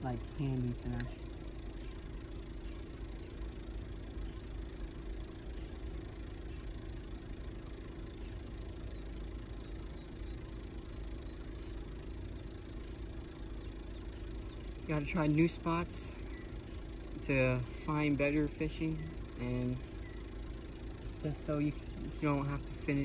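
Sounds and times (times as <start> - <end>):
motor running steadily: 0.0 - 23.0.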